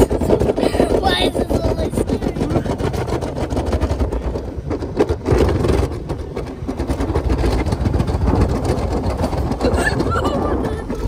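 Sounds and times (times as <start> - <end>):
toboggan rumbling and scraping on grass: 0.0 - 11.0
wind buffeting microphone: 0.0 - 11.0.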